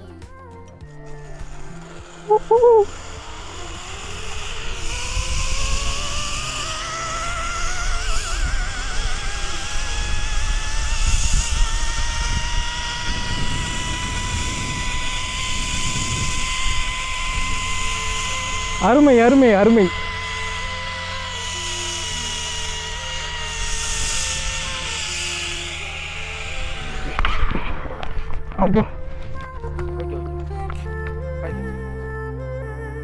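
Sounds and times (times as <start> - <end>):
zipline pulleys whining on cable: 0.0 - 31.8
wind rumble on microphone: 0.9 - 33.0.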